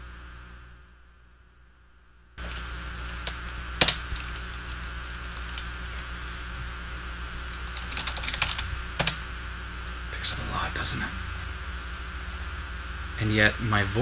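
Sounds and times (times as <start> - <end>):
low mains hum: 0.0 - 14.0
microphone hiss: 0.0 - 14.0
thin steady whine: 0.0 - 14.0.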